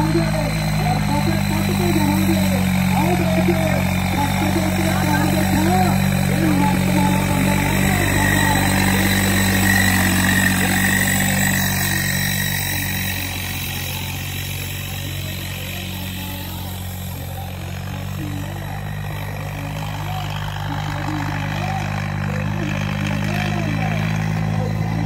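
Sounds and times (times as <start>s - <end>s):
tractor engine idling: 0.0s - 25.0s
voices in background: 0.0s - 25.0s.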